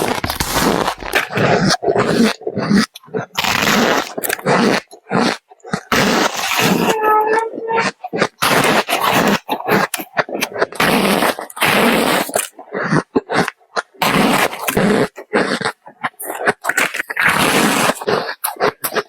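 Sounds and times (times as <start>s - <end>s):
crunching and chewing ice: 0.0s - 19.0s.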